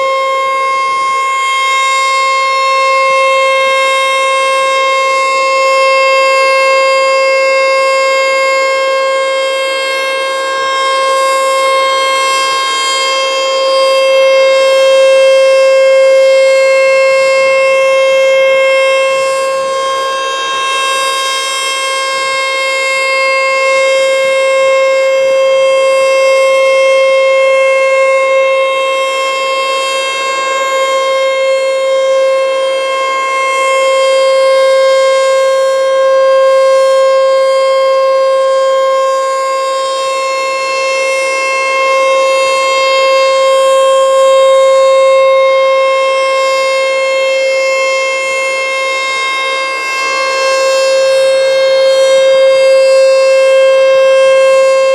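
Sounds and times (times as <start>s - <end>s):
warning siren steady tone: 0.0s - 54.9s.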